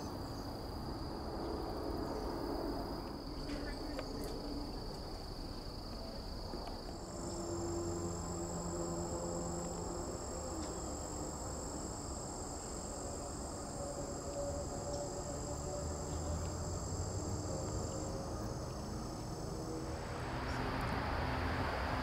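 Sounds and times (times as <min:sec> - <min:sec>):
high-pitched insect trills: 0:00.0 - 0:22.0.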